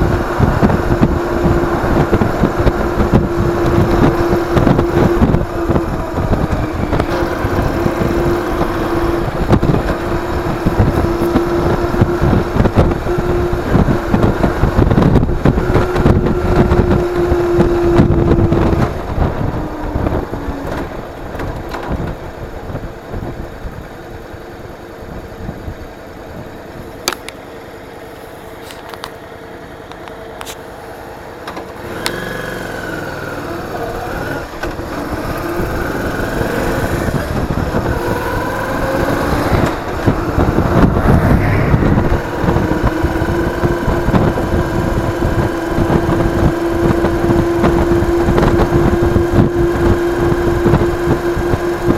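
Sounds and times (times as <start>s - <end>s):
wind buffeting microphone: 0.0s - 24.2s, 31.8s - 51.9s
vehicle engine running: 0.0s - 51.9s.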